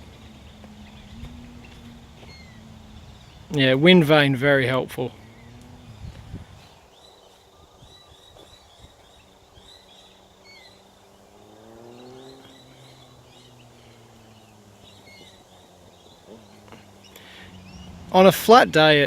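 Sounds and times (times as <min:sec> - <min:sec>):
low engine hum: 0:00.0 - 0:19.0
small birds chirping: 0:00.0 - 0:19.0.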